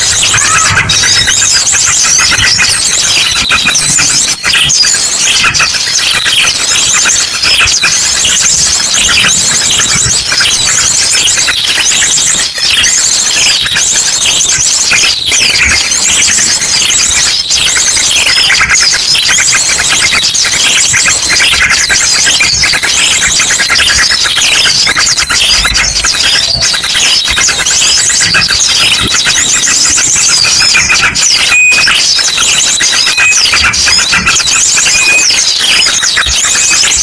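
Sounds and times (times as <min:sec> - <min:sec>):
small birds chattering and calling: 0:00.0 - 0:37.0.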